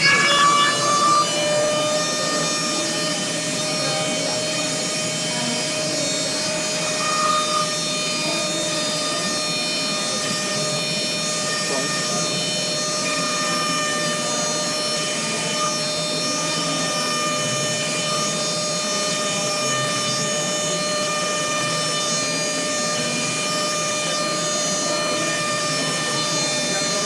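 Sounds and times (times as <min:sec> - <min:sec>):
constant machine whine: 0:00.0 - 0:27.0
machinery running: 0:00.0 - 0:27.0.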